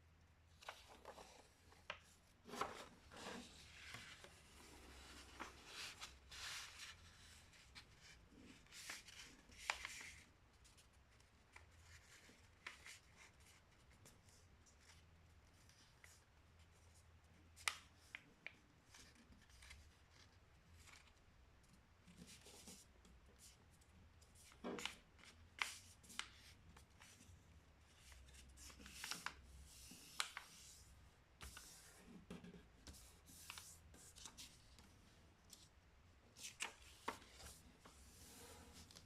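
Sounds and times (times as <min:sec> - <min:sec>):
paper rustling and folding: 0:00.5 - 0:16.2, 0:17.6 - 0:23.6, 0:24.3 - 0:39.0.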